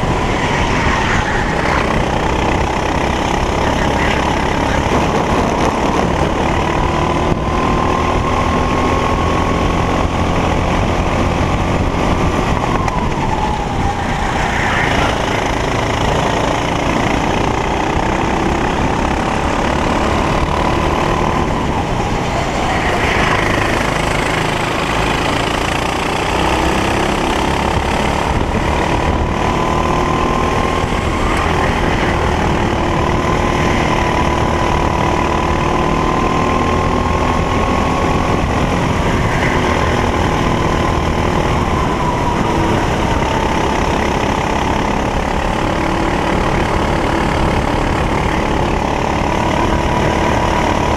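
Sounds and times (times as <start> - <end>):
kart engine revving: 0.0 - 50.9
steady rushing noise: 0.0 - 50.9.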